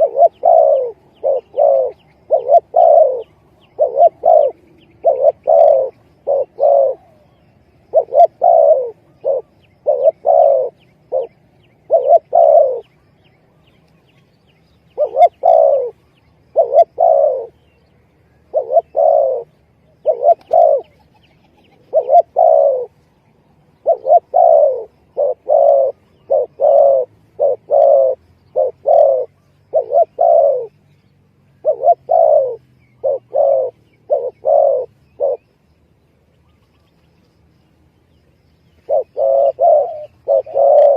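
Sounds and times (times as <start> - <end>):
dove cooing: 0.0 - 13.0, 14.9 - 30.8, 31.5 - 35.6, 38.7 - 40.9.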